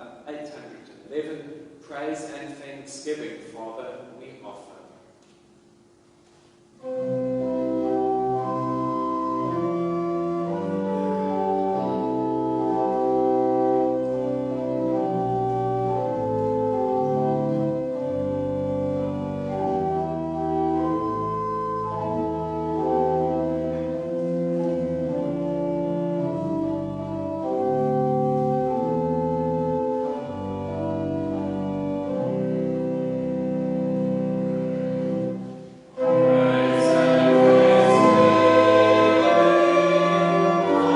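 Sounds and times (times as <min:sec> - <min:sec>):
organ playing sustained chords: 0:06.7 - 0:40.9.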